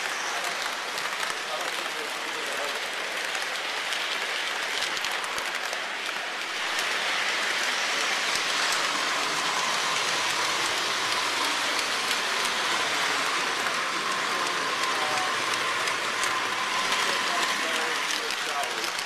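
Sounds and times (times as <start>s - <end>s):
model train rolling hiss: 0.0s - 19.0s.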